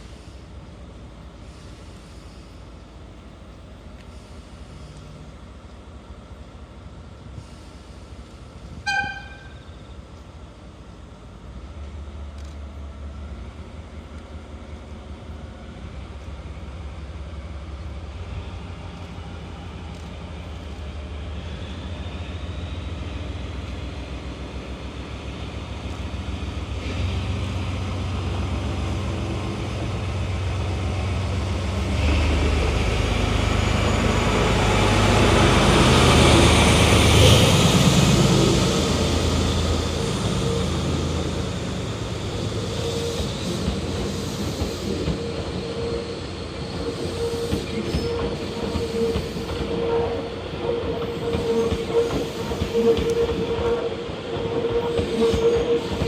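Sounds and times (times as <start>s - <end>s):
diesel locomotive engine rumble: 0.0s - 56.0s
train wheels on rails: 0.0s - 56.0s.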